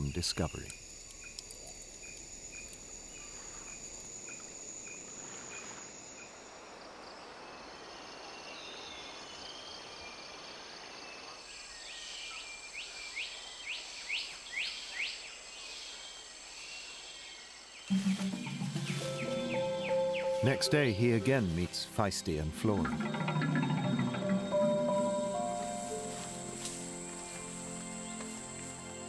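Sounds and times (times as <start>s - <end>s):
insects droning and trilling: 0.0s - 29.0s.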